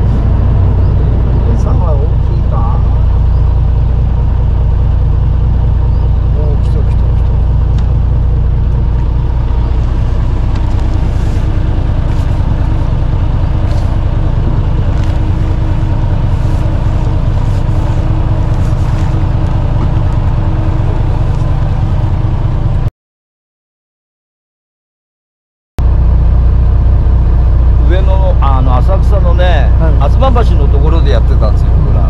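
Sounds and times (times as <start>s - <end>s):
boat engine idling: 0.0s - 22.9s, 25.8s - 32.0s.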